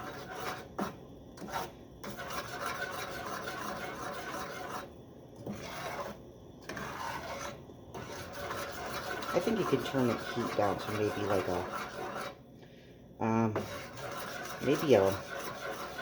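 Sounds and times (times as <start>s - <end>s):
spoon scraping a saucepan: 0.0s - 12.4s, 13.5s - 16.0s.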